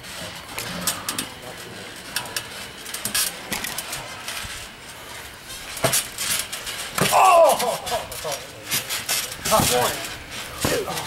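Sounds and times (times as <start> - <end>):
trampoline springs creaking: 0.0 - 11.0.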